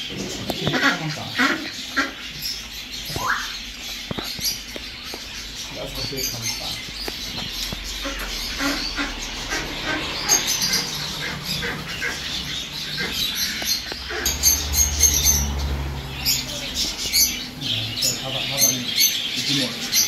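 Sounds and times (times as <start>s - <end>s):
caged birds chirping: 0.0s - 20.0s.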